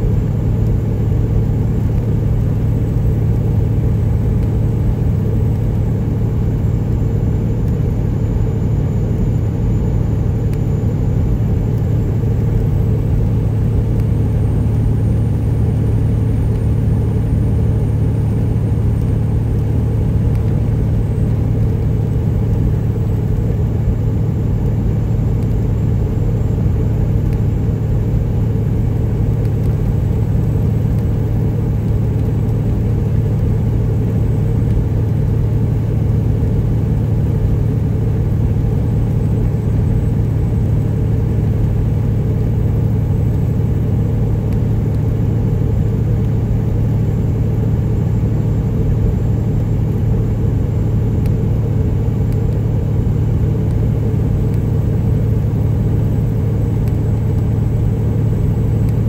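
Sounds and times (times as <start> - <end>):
truck engine drone from cab: 0.0 - 59.0.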